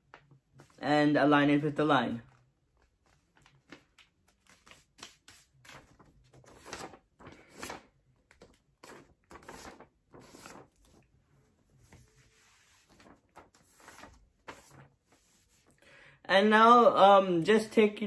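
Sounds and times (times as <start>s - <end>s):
paper rustling and folding: 0.0s - 0.8s, 2.1s - 15.8s.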